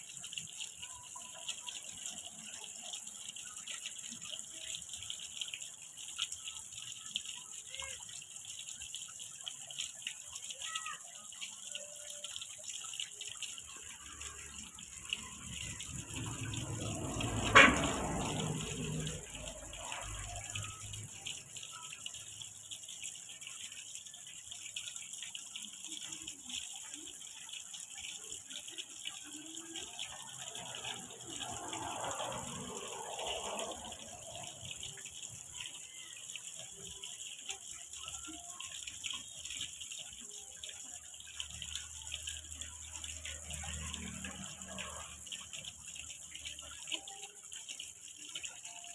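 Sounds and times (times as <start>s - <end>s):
fountain water splashing: 0.0s - 48.9s.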